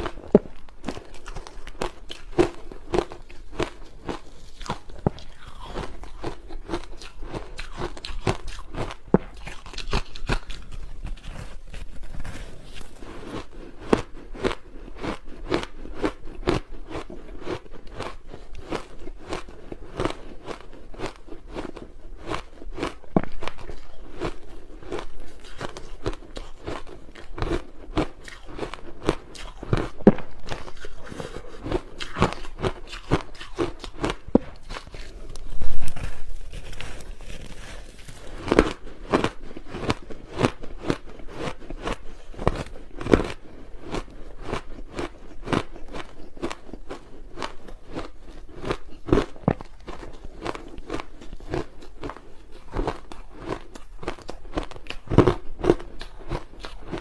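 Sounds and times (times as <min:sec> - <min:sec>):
chewing ice crunches: 0:00.0 - 0:57.0.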